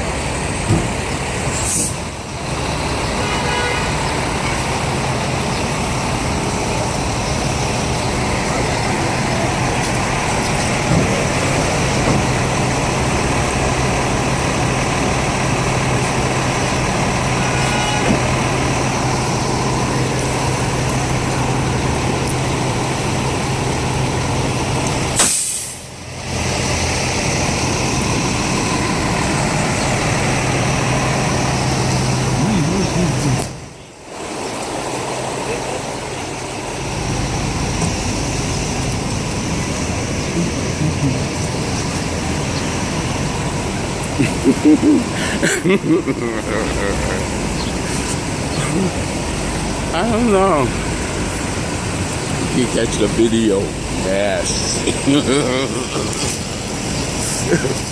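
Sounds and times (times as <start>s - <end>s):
fire engines idling: 0.0s - 57.9s
street traffic noise: 0.0s - 57.9s.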